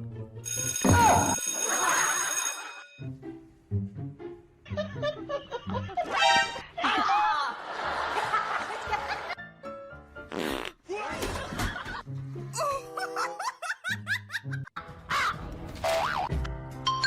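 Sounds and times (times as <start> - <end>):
background music: 0.0 - 2.0, 2.8 - 17.0.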